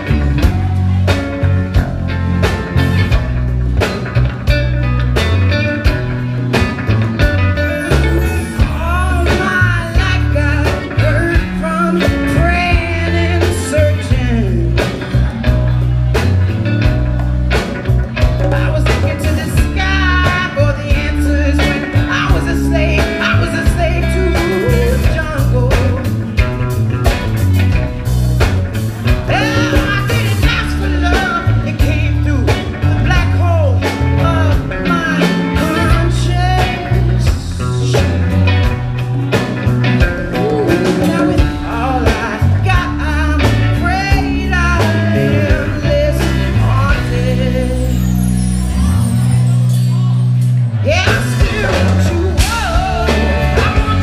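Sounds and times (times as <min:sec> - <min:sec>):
bass guitar: 0:00.0 - 0:54.0
drums: 0:00.0 - 0:54.0
electric guitar: 0:00.0 - 0:54.0.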